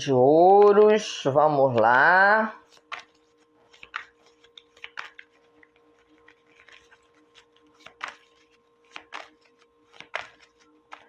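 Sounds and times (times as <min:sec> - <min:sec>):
faint steady hum: 0:00.0 - 0:11.0
playing cards being shuffled: 0:01.6 - 0:11.0.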